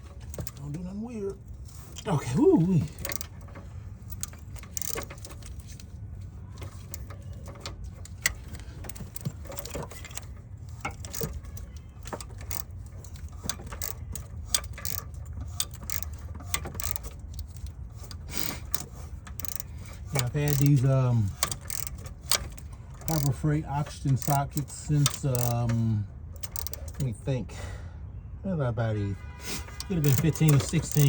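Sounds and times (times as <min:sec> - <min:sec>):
ratchet clicking: 0:00.0 - 0:00.8, 0:01.4 - 0:27.2, 0:29.6 - 0:31.0.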